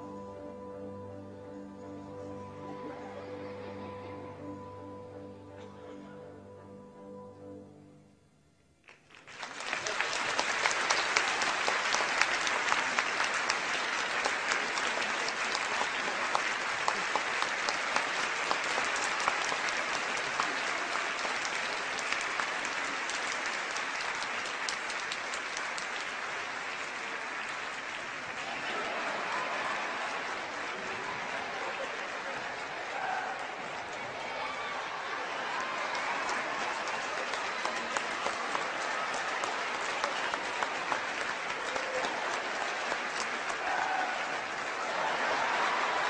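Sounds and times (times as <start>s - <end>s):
audience applauding: 8.8s - 46.0s.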